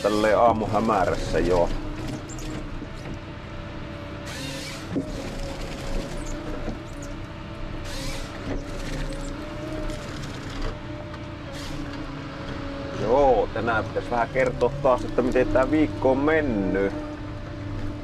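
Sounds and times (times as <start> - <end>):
forest harvester machine drone: 0.0 - 18.0.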